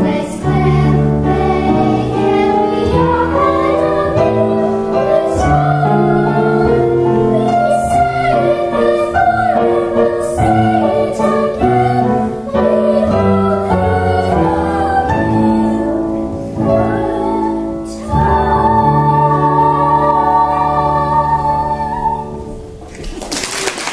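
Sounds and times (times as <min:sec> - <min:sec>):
girls singing together: 0:00.0 - 0:22.8
instrumental accompaniment: 0:00.0 - 0:22.9.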